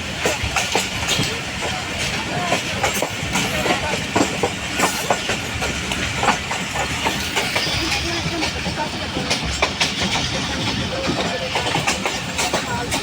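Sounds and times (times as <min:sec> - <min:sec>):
train rumble: 0:00.0 - 0:13.0
train wheels clacking: 0:00.0 - 0:13.0.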